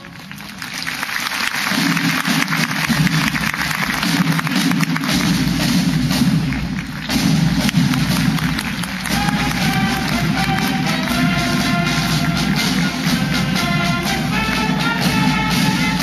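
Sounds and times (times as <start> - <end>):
military marching band: 0.0 - 16.0
rapid snare drum strokes: 1.5 - 16.0
bass drum beats: 1.8 - 16.0.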